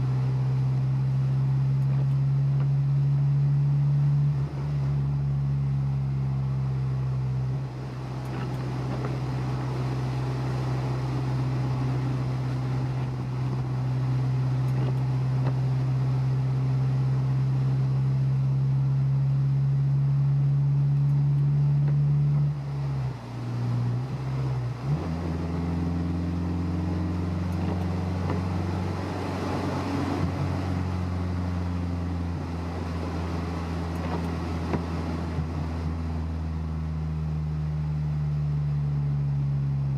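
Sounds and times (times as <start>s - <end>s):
car engine running: 0.0s - 39.9s
tyre and road noise: 0.0s - 39.9s.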